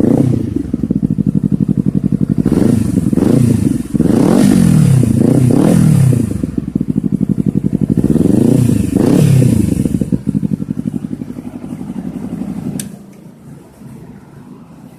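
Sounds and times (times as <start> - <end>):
motorcycle engine revving and idling: 0.0 - 14.9.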